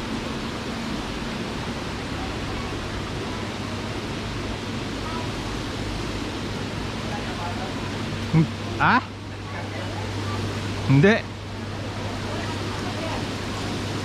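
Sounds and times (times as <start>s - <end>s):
low mechanical hum: 0.0s - 14.0s
steady rushing noise: 0.0s - 14.0s.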